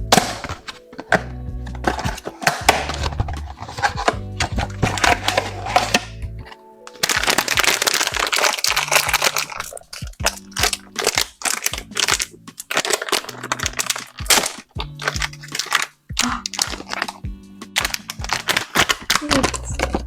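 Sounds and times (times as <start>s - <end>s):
background music: 0.0s - 20.0s
packaging crinkling and tearing: 0.2s - 17.2s, 17.8s - 20.0s.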